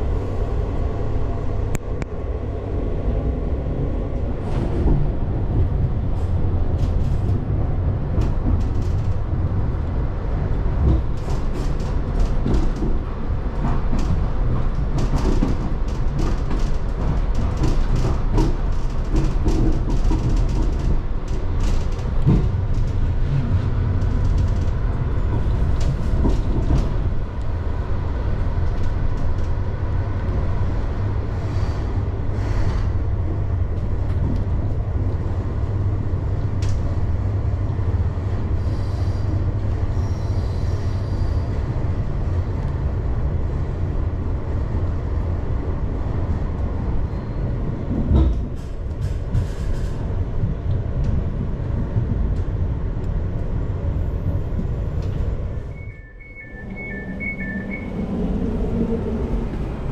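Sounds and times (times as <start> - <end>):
train rumbling: 0.0 - 59.9
train clicks and rattles: 3.8 - 55.7.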